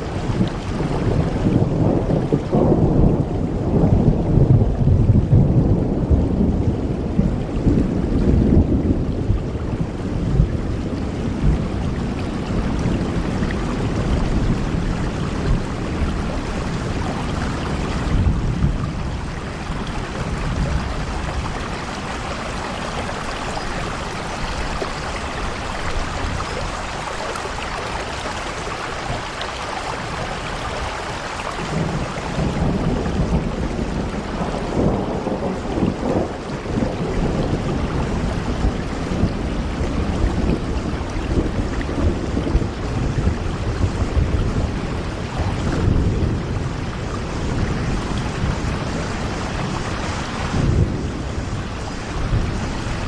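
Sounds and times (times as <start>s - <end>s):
heavy rain: 0.0s - 53.0s
thunder rumbling: 0.0s - 53.0s.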